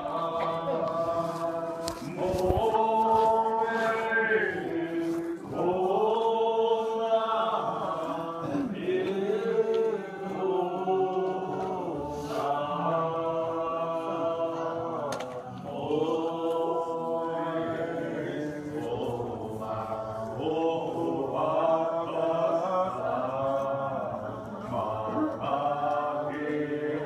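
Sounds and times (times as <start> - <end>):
congregation singing a hymn: 0.0 - 27.0.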